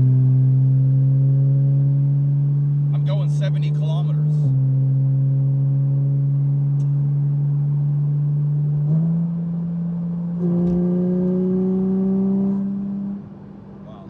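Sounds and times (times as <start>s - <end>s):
car engine drone from inside: 0.0s - 14.0s.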